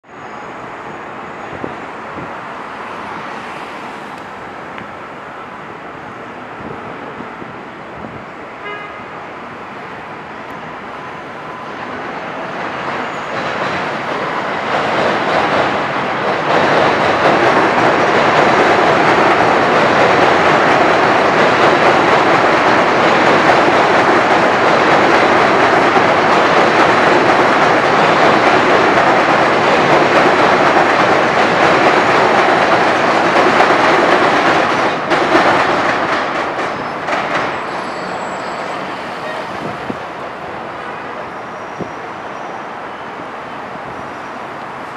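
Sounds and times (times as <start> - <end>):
train wheels rumbling on rail: 0.5 - 44.9.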